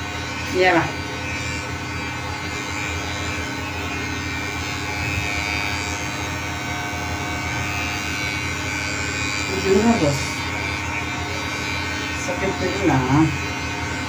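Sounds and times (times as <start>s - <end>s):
electric hair clipper humming: 0.0s - 14.0s.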